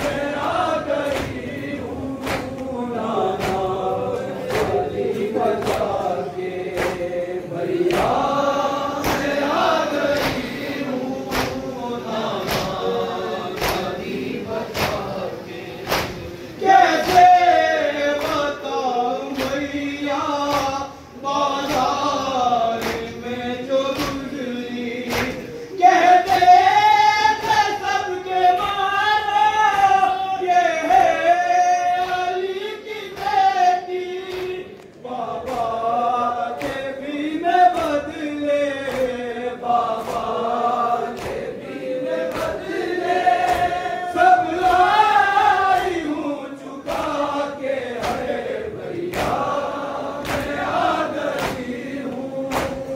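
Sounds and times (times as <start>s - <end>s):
voices singing mourning chant: 0.0s - 52.9s.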